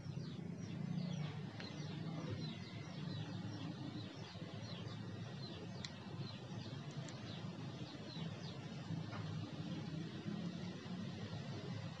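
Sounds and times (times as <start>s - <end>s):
small bird chirping: 0.0s - 11.9s.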